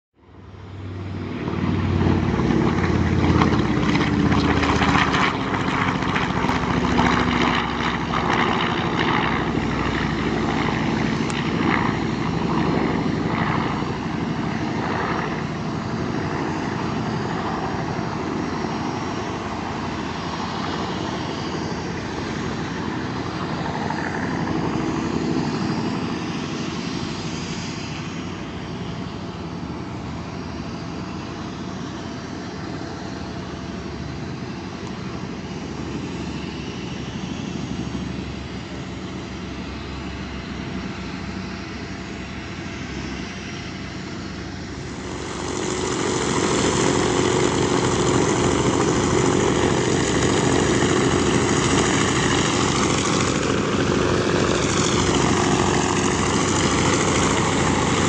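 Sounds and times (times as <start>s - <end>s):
propeller aircraft drone overhead: 0.2s - 58.0s.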